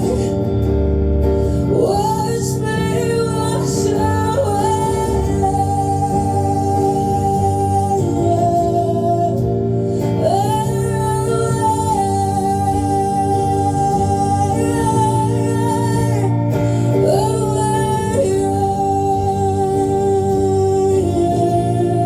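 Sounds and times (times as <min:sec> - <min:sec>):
acoustic guitar: 0:00.0 - 0:22.0
woman singing: 0:00.0 - 0:22.0.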